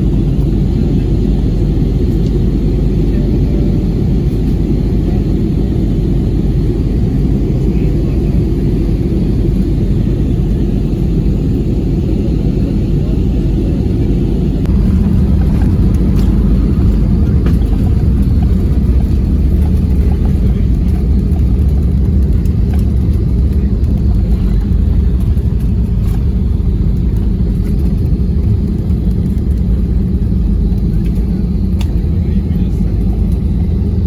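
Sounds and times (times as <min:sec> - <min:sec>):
airliner engines rumbling in cabin: 0:00.0 - 0:34.0.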